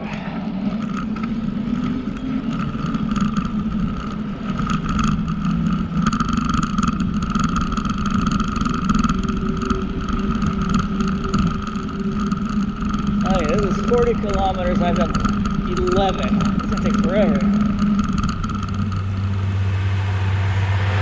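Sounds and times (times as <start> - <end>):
bicycle drivetrain whirring: 0.0 - 21.0.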